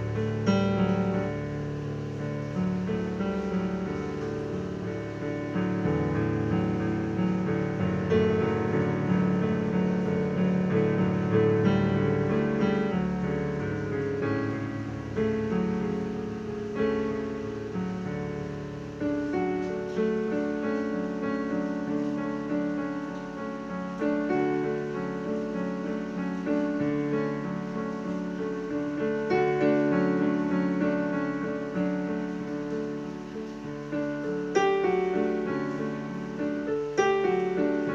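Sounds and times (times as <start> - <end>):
piano music: 0.0 - 37.9.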